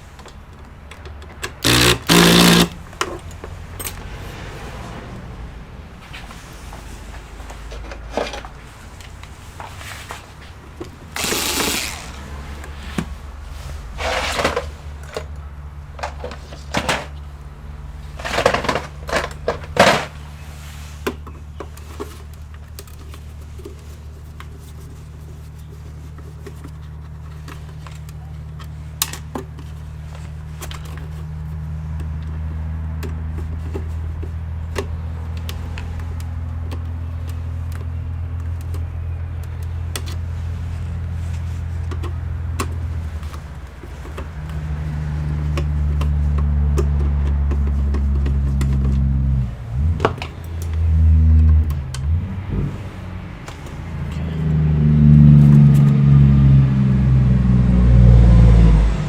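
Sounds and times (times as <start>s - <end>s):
tools clicking and scraping on case: 0.0s - 4.4s, 7.5s - 54.5s.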